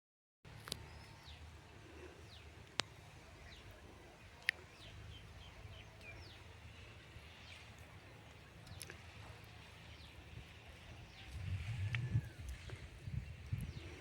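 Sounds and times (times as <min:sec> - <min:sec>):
birds chirping: 0:00.5 - 0:14.0
steady low rumble: 0:00.5 - 0:14.0.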